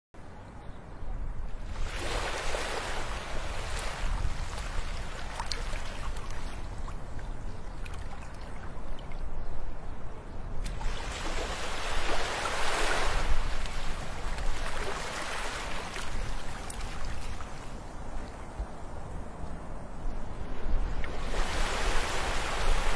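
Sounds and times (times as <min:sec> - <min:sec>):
small waves washing onto sand: 0:01.6 - 0:09.0, 0:10.6 - 0:19.5, 0:20.2 - 0:22.9.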